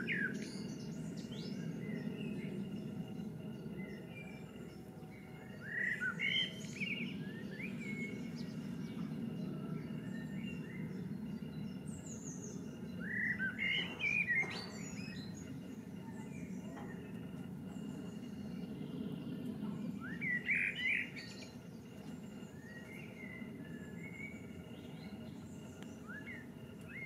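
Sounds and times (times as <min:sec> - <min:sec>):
low background rumble: 0:00.0 - 0:27.0
songbird chirping: 0:00.0 - 0:27.0.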